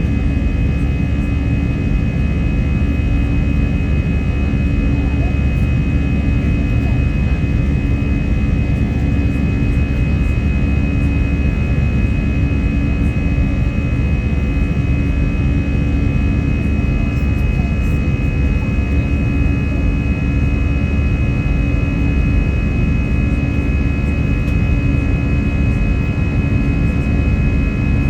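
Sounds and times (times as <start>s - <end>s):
high jet engine whine: 0.0s - 28.0s
jet engines rumbling: 0.0s - 28.0s.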